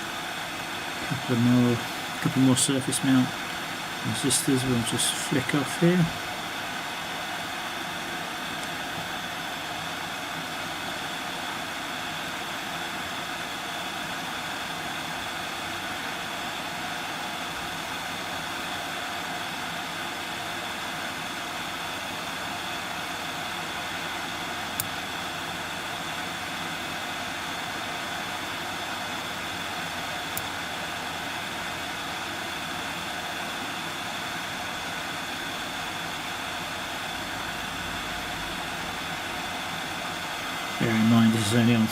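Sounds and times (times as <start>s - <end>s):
hot air blower rushing: 0.0s - 41.9s.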